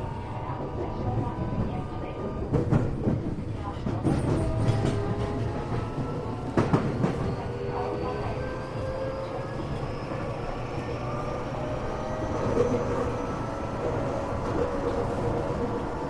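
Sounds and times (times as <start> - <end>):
train wheel and track rumble: 0.0 - 16.0.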